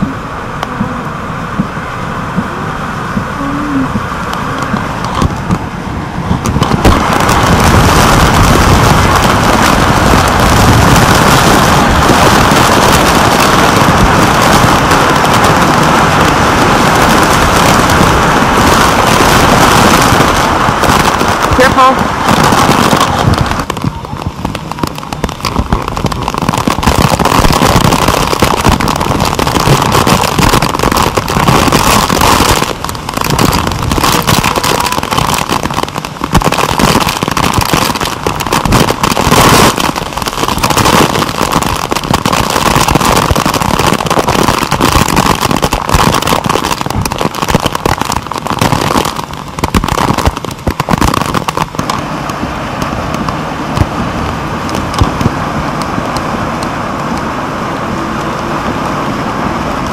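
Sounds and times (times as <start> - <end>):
heavy rain on camera housing: 0.0 - 59.9.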